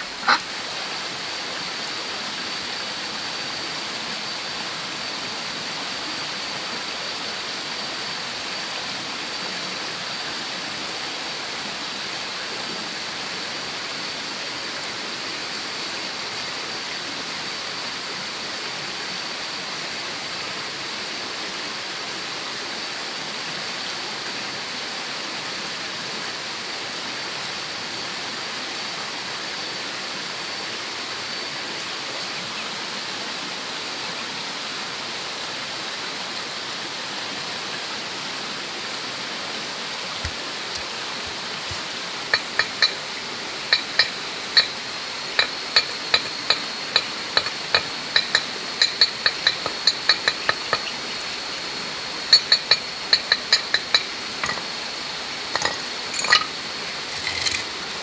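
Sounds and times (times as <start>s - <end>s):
faint high whine: 0.0s - 58.0s.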